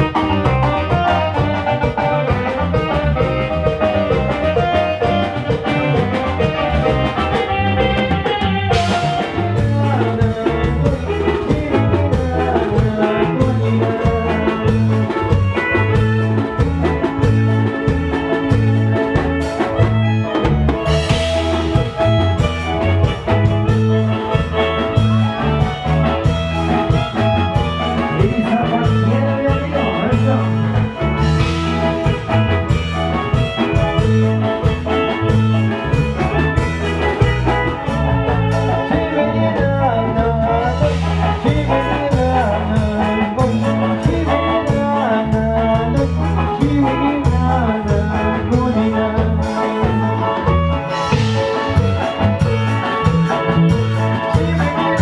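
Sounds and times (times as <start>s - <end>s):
latin dance music: 0.0s - 55.0s
pulsing bass line: 0.0s - 55.0s.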